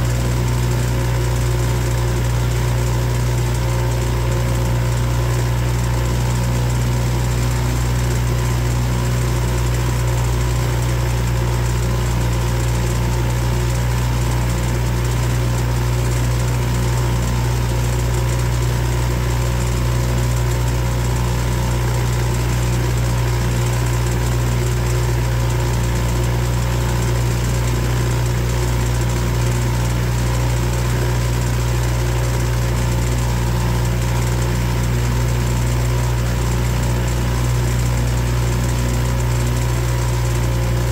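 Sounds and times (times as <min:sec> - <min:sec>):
boat motor humming: 0:00.0 - 0:40.9.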